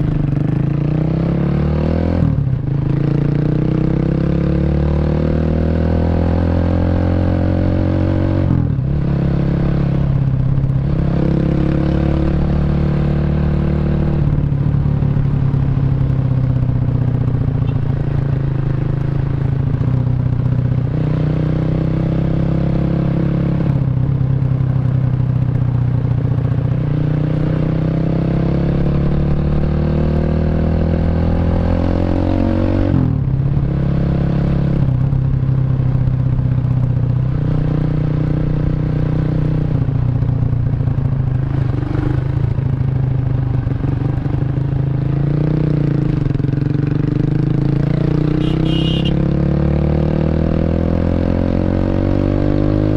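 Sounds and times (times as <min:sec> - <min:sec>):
motorcycle engine shifting gears: 0:00.0 - 0:52.9.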